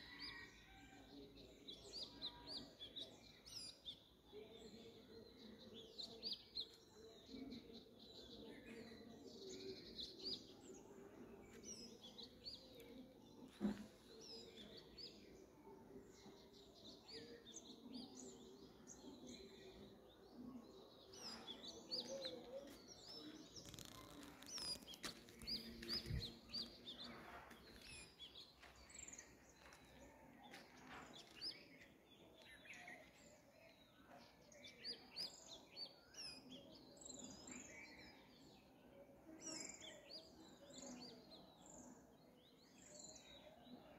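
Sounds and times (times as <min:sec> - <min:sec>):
small birds chirping: 0:01.7 - 0:43.9.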